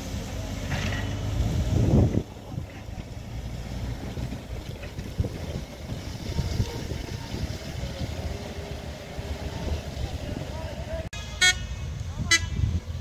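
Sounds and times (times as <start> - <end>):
distant fire truck engine and pump: 0.0 - 13.0
wind buffeting microphone: 1.2 - 13.0.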